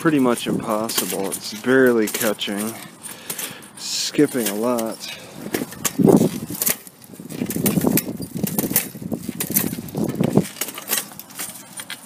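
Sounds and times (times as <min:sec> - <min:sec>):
bicycle chain clattering and skipping: 0:00.0 - 0:12.0
sharp metallic clicks: 0:00.0 - 0:12.0.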